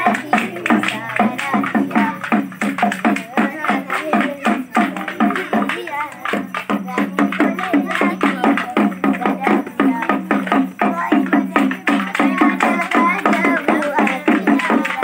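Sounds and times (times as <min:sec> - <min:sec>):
hand drum beating fast: 0:00.0 - 0:15.0
voices singing: 0:00.0 - 0:15.0.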